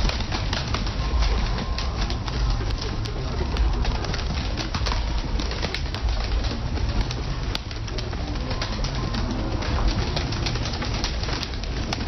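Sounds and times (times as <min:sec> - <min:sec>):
pigeons cooing: 0:00.0 - 0:12.0
wing flaps: 0:00.0 - 0:12.0.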